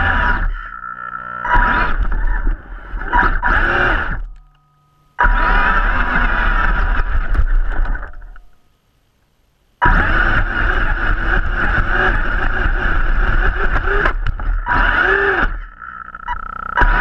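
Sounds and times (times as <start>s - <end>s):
tyres churning through loose dirt: 0.0s - 4.3s, 5.2s - 8.2s, 9.8s - 17.0s
electric motor whining: 0.0s - 4.6s, 5.2s - 8.3s, 9.8s - 17.0s.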